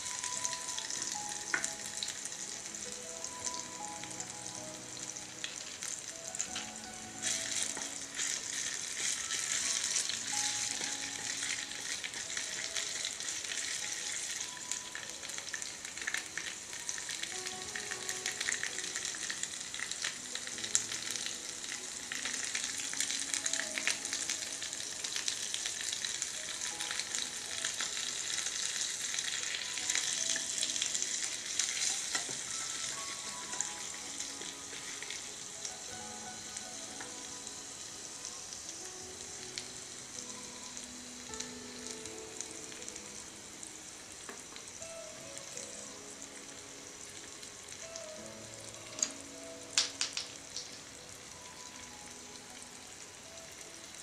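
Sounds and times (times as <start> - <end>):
oil sizzling in a frying pan: 0.0 - 54.0.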